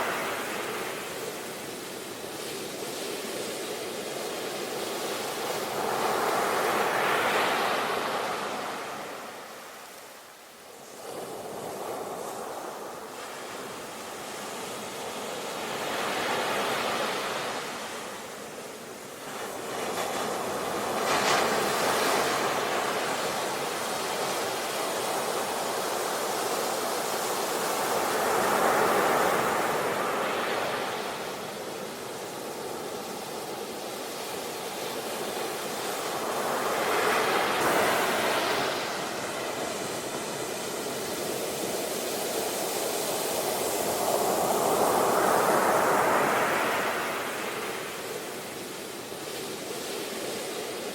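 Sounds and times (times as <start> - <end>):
sea waves breaking on shore: 0.0 - 50.9.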